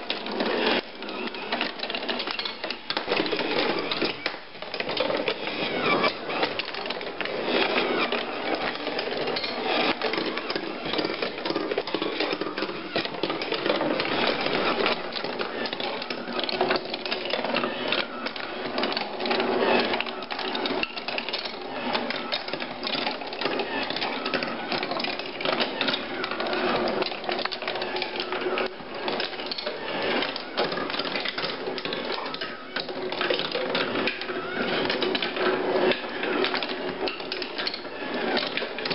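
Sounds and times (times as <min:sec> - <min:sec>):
wooden marble machine clattering: 0:00.0 - 0:38.9.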